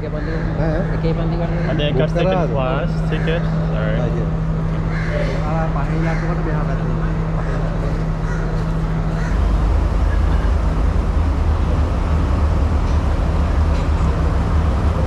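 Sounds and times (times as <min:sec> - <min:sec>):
deep engine drone: 0:00.0 - 0:15.0
diesel train engine hum: 0:00.0 - 0:15.0.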